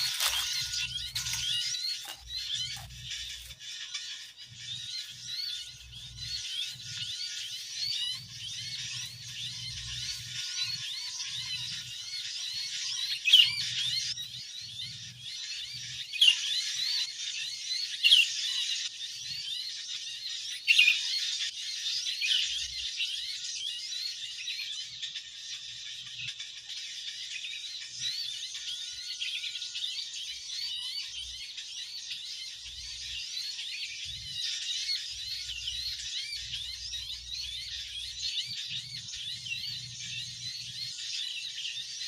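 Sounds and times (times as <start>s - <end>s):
sharp bird calls: 0.0s - 42.0s
small birds chirping: 0.0s - 42.0s.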